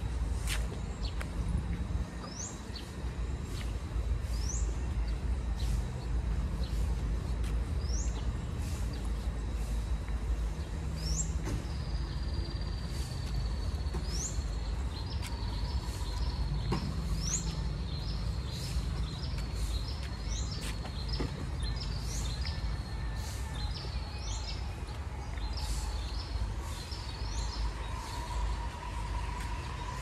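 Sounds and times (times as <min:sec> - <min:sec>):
birds chirping: 0:00.4 - 0:30.0.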